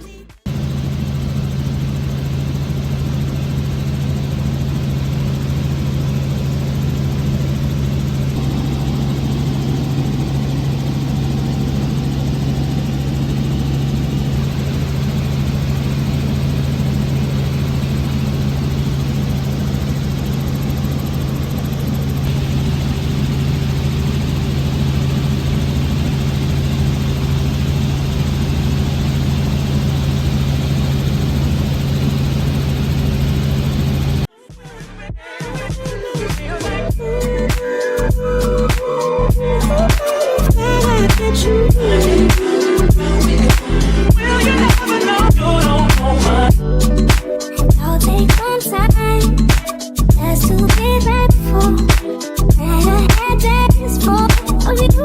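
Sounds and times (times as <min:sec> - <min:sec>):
helicopter engine and rotors: 0:00.5 - 0:34.3, 0:36.8 - 0:55.0.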